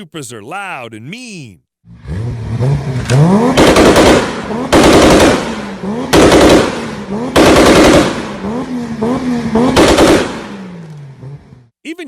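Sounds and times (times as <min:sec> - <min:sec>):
engine revving hard: 0:01.8 - 0:11.7
rapid exhaust bangs: 0:01.9 - 0:11.6.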